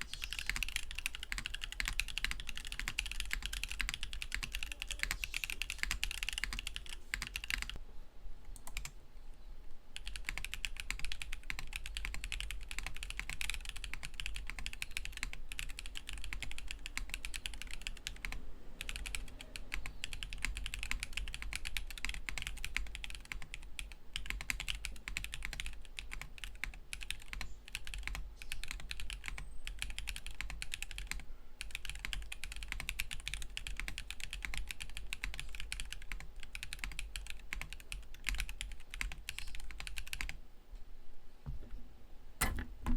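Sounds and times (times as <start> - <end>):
mechanical keyboard typing: 0.0 - 7.8, 8.5 - 8.9, 10.0 - 40.4.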